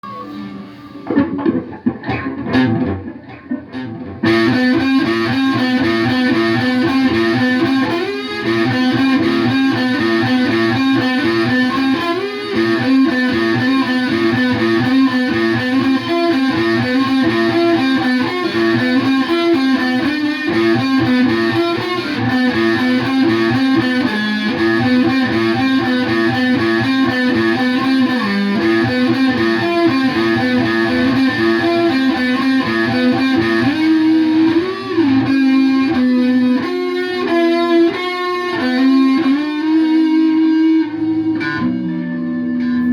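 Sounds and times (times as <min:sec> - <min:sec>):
distorted electric guitar riff: 0:00.0 - 0:42.9.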